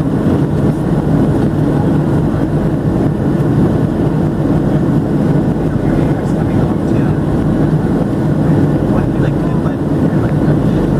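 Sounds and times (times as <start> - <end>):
jet engines droning: 0.0 - 10.9
rush of airflow: 0.0 - 10.9.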